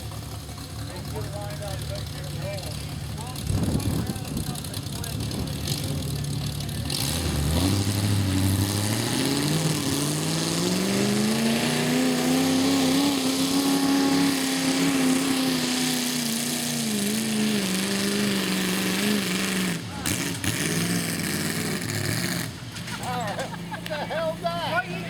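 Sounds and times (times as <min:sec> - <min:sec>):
garden tractor engine revving: 0:00.0 - 0:25.0.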